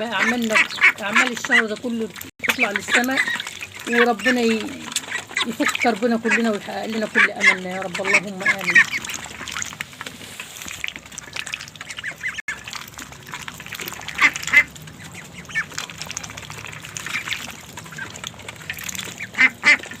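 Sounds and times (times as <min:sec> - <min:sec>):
ducks quacking: 0:00.0 - 0:09.8, 0:11.0 - 0:12.7, 0:13.3 - 0:20.0.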